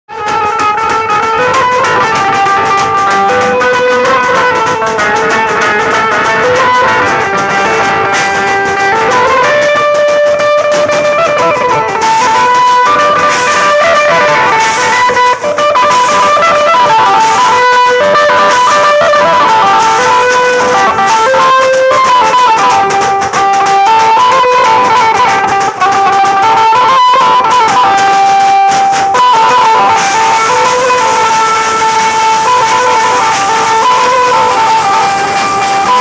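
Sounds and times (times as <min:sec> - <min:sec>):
band lead melody: 0:00.1 - 0:36.0
steady drumming: 0:00.1 - 0:36.0
cymbals: 0:00.2 - 0:36.0.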